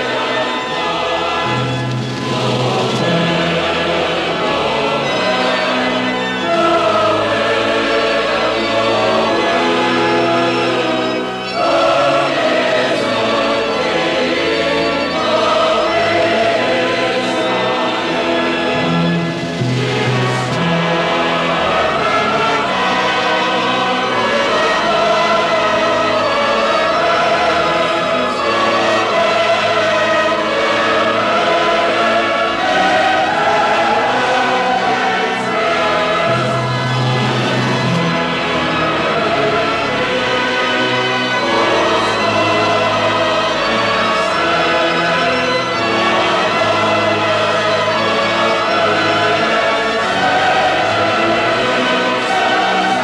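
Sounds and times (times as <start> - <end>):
choir singing held chords: 0.0 - 53.0
orchestral accompaniment: 0.0 - 53.0.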